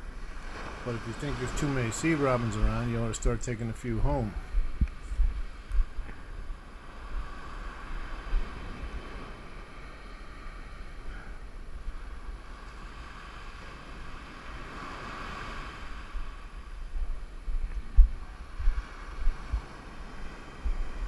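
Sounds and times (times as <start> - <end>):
ocean surf on beach: 0.0 - 21.0
wind buffeting microphone: 0.0 - 21.0.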